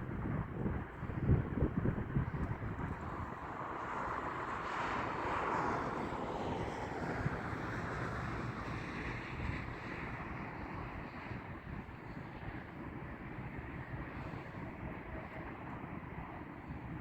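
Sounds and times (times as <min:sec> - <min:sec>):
jet aircraft engines rushing: 0:00.0 - 0:17.0
wind buffeting microphone: 0:00.0 - 0:17.0.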